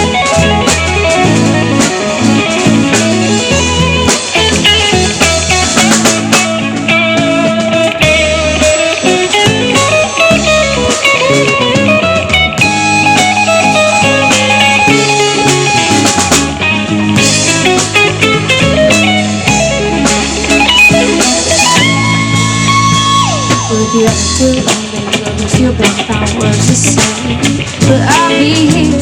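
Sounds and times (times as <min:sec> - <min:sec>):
bass guitar: 0:00.0 - 0:29.0
drum kit: 0:00.0 - 0:29.0
electric guitar lead line: 0:00.0 - 0:29.0.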